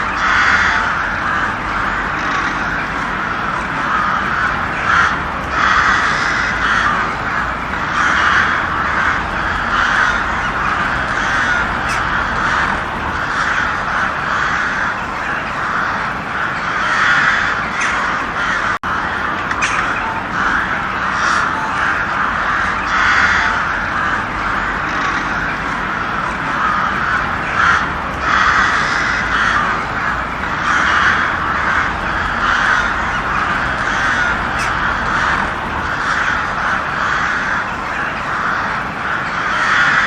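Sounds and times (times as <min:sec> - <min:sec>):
crows cawing: 0:00.0 - 0:40.0.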